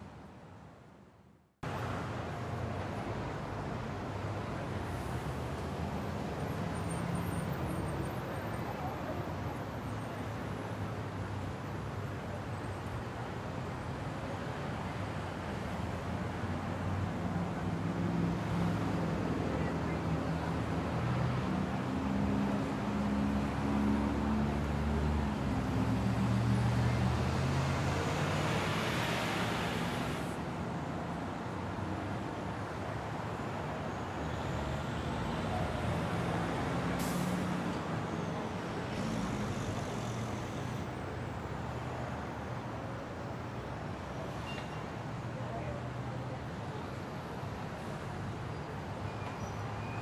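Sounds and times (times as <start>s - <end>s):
city street traffic: 0.0s - 50.0s.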